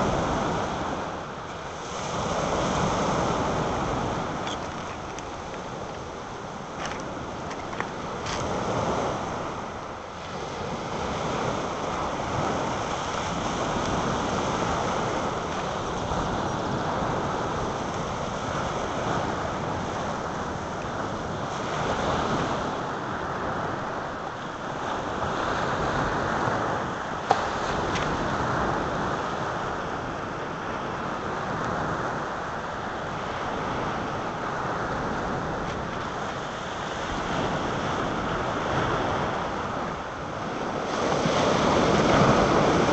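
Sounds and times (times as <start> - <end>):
waves washing on pebble beach: 0.0 - 42.9
wind on microphone: 0.0 - 42.9.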